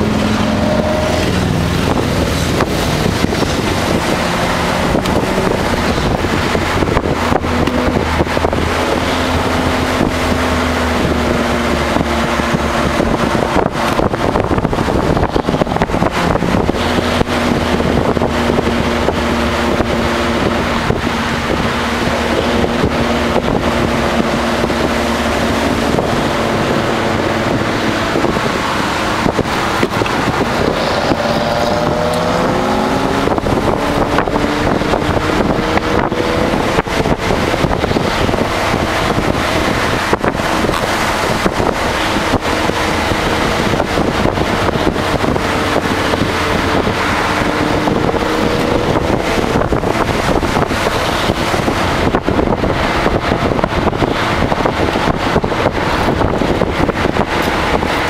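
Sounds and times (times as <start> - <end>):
car engine while driving: 0.0 - 58.0
road and wind noise: 0.0 - 58.0.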